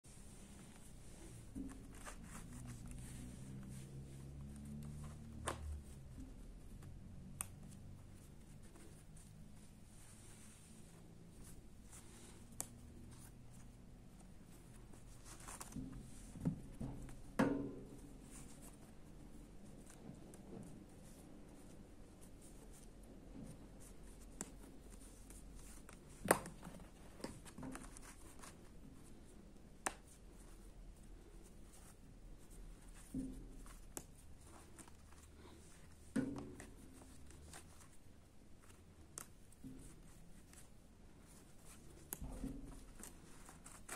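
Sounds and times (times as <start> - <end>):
soft rustling of yarn: 0.1 - 43.9.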